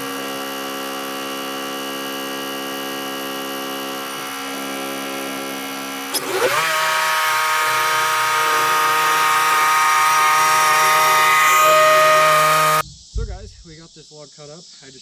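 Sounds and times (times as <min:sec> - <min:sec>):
bandsaw sawmill running: 0:00.0 - 0:12.8.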